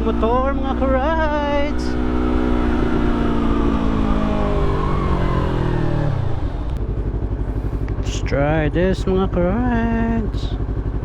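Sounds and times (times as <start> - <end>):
motorcycle engine slowing to idle: 0.0 - 11.0.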